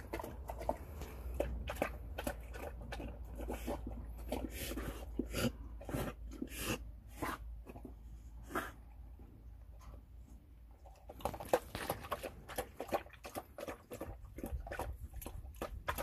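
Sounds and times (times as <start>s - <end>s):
dog lapping from metal pan: 0.0s - 8.0s, 10.8s - 16.0s.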